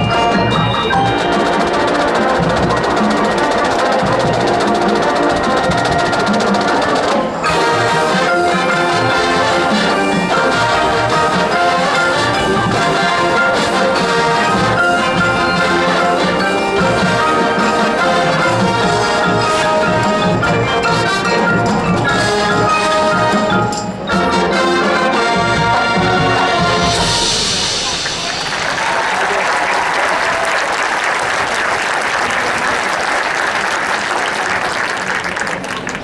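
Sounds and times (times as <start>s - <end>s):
marching band brass: 0.0s - 31.9s
drumline percussion: 0.0s - 36.0s.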